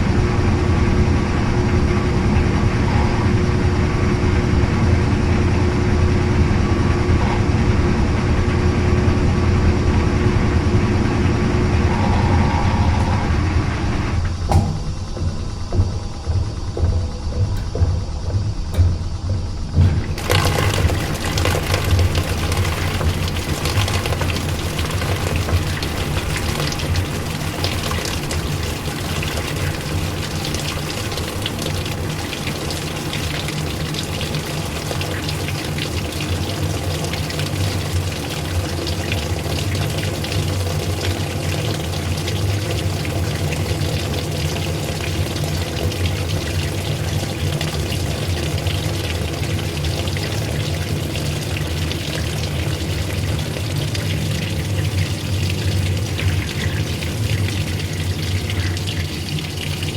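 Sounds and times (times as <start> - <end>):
washing machine motor hum: 0.0 - 59.9
water rushing and churning: 0.0 - 59.9.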